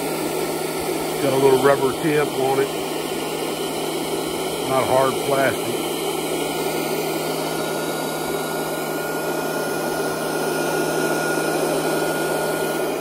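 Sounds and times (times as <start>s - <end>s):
cordless blower running: 0.0s - 13.0s.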